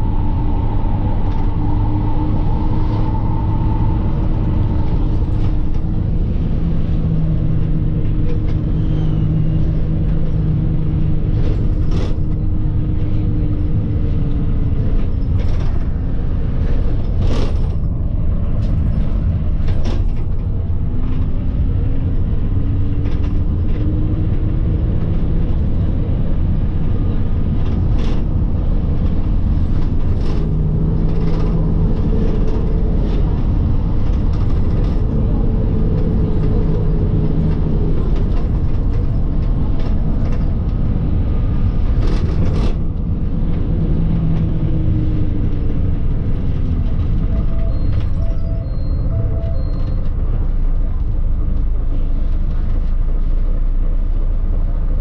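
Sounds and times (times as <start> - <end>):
bus engine running: 0.0 - 55.0
road rumble: 0.0 - 55.0.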